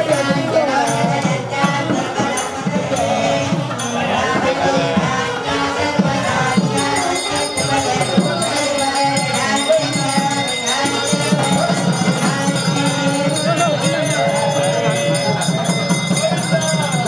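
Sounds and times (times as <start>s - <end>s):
jingling rattling percussion: 0.0s - 17.0s
music with voices: 0.0s - 17.0s.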